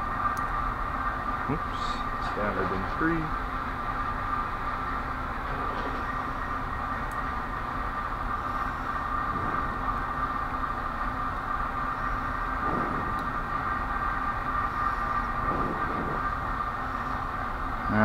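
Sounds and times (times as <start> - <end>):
mechanical hum with high whine: 0.0 - 18.0.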